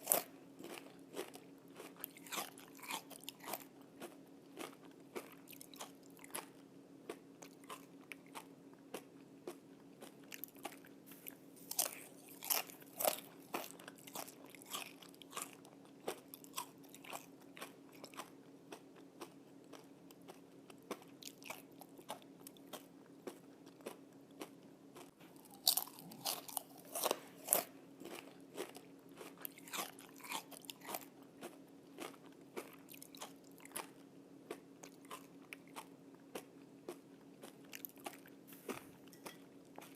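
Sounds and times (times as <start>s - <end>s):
bacon crunching being chewed: 0.0s - 39.9s.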